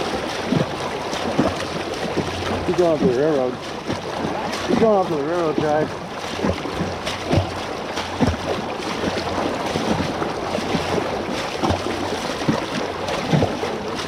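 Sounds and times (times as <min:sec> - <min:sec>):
splashing steps in water: 0:00.0 - 0:14.0
wash of water: 0:00.0 - 0:14.0.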